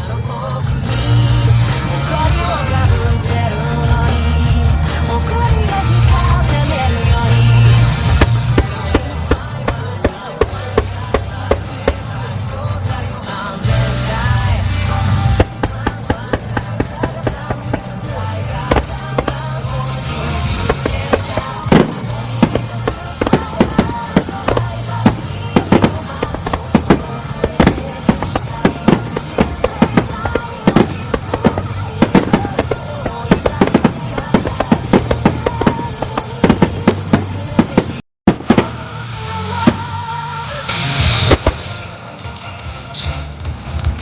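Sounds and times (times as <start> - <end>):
fireworks bursting with sharp bangs: 0.0 - 40.2, 41.0 - 41.9
music: 0.0 - 44.0.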